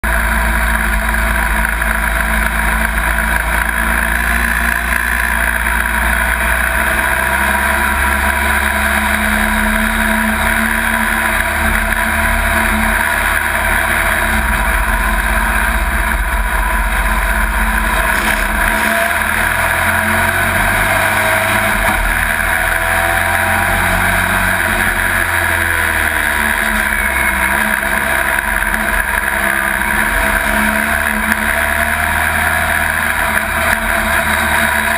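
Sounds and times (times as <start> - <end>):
truck engine running under load: 0.0 - 34.9.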